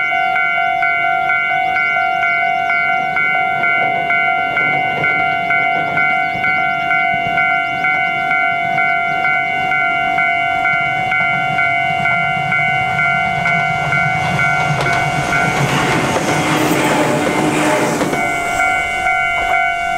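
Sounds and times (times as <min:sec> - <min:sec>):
electric train passing: 0:00.0 - 0:19.9
pulsing metallic chime: 0:00.0 - 0:19.9.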